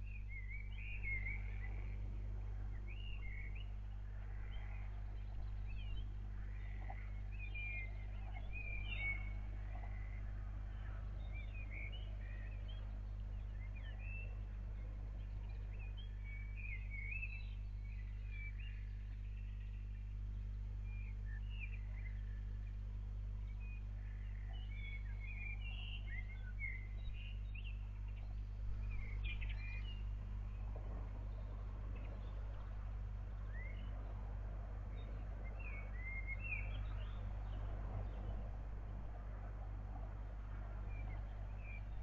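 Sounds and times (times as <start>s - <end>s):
small birds chirping: 0.0s - 34.2s, 34.9s - 42.0s
steady low hum: 0.0s - 42.0s.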